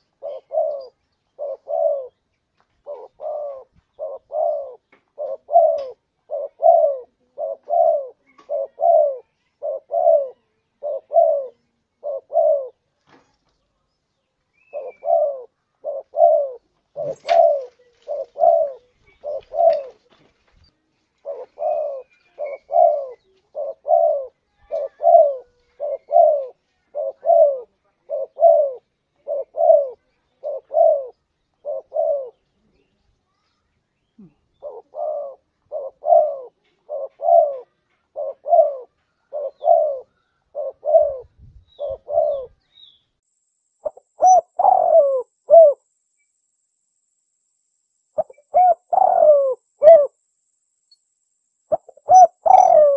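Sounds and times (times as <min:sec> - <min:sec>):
dove cooing: 0:00.0 - 0:02.2, 0:02.8 - 0:12.8, 0:14.6 - 0:20.2, 0:21.2 - 0:32.6, 0:34.2 - 0:42.6, 0:43.8 - 0:45.9, 0:48.2 - 0:50.2, 0:51.7 - 0:52.9.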